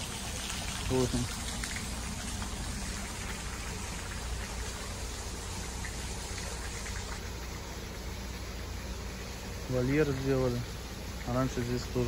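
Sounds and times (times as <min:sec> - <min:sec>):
fountain water hissing: 0:00.0 - 0:12.0.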